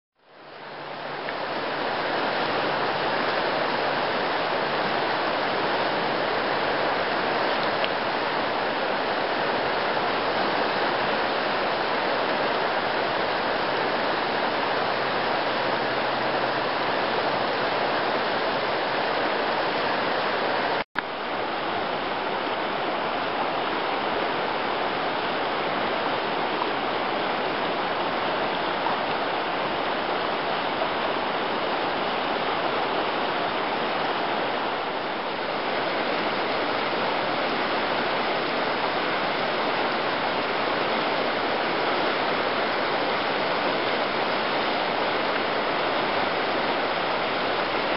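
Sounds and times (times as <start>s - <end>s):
river water rushing: 0.2s - 47.9s.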